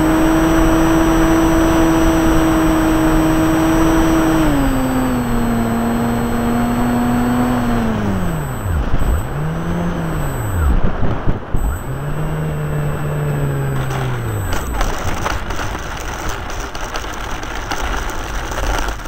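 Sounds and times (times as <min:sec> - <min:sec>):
electric motor and propeller drone: 0:00.0 - 0:19.0.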